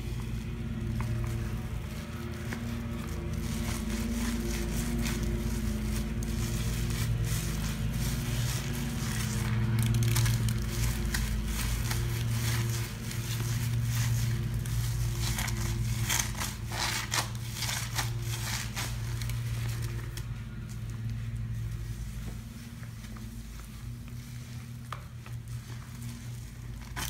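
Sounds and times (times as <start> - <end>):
lawn mower engine hum: 0.0 - 27.0.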